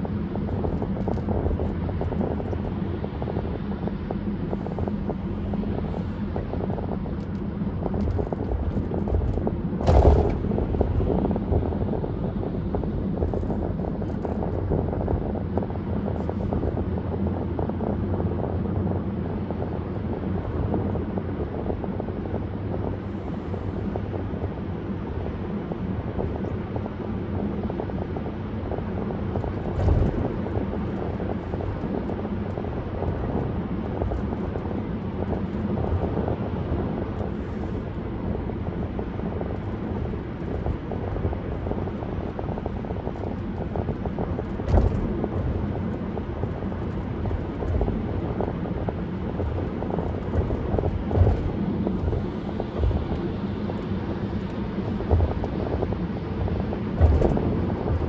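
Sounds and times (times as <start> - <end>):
low engine hum: 0.0 - 58.0
road tyre and wind noise: 0.0 - 58.0.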